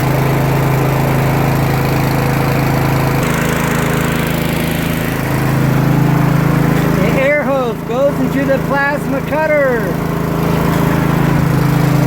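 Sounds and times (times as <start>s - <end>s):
machine motor droning: 0.0s - 12.0s.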